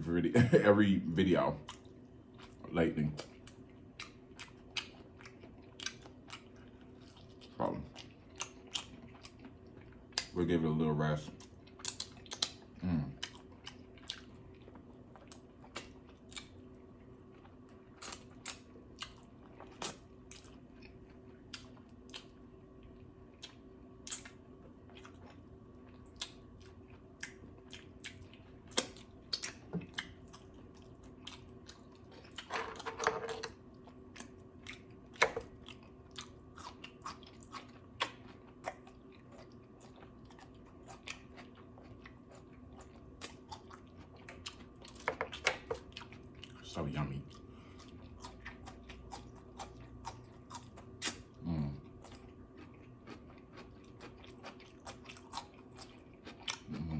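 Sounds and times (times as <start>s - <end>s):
faint steady hum: 0.0s - 56.9s
person chewing and crunching: 1.5s - 10.4s, 11.2s - 56.9s.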